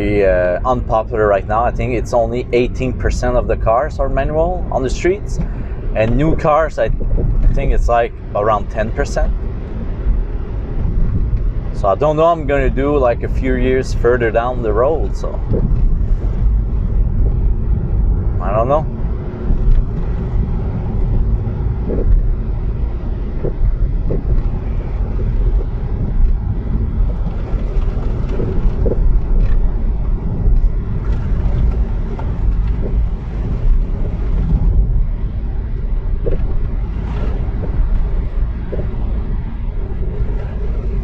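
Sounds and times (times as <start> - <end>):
car engine and road rumble: 0.0 - 41.0
tyres on wet snowy road: 0.0 - 41.0.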